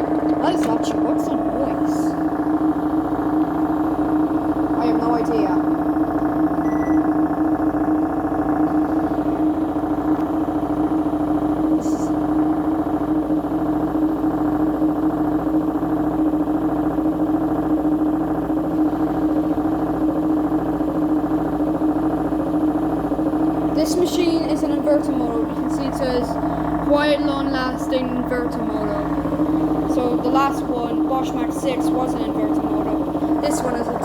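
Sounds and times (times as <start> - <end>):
washing machine spinning: 0.0 - 34.0.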